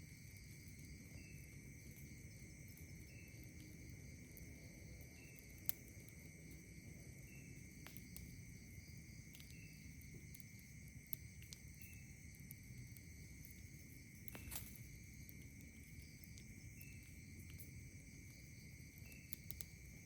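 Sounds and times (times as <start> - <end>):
campfire crackling and popping: 0.0 - 20.0
night insects trilling: 0.0 - 20.0.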